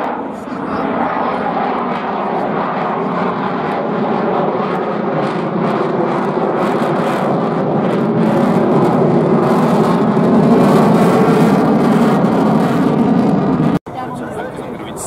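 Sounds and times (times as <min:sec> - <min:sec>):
jet engine roar overhead: 0:00.0 - 0:15.0.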